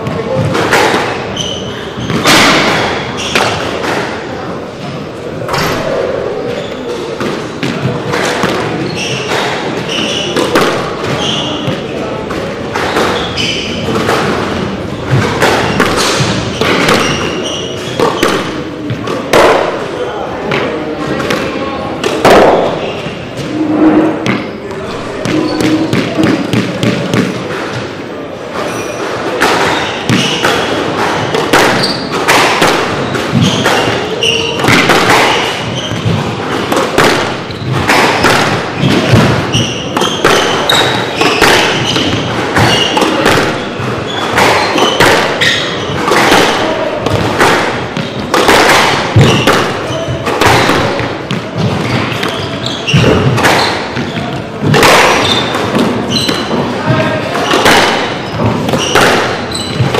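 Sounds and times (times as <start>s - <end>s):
sneakers squeaking on wooden floor: 0.0s - 4.1s, 4.7s - 59.9s
squash ball cracking off rackets: 0.0s - 4.3s, 7.1s - 23.1s, 24.2s - 59.9s.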